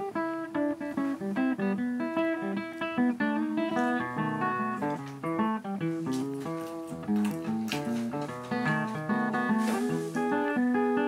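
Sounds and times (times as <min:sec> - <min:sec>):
guitar picking plucked notes: 0:00.0 - 0:11.0.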